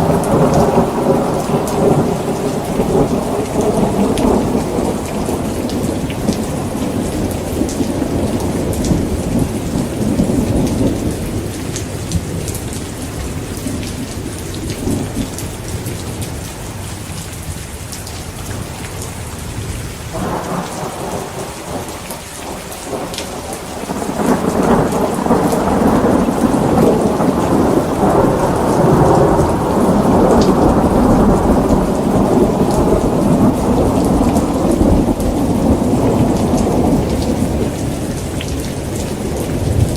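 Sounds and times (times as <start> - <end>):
rolling thunder: 0.0 - 16.2, 19.6 - 39.9
heavy rain: 0.0 - 39.9.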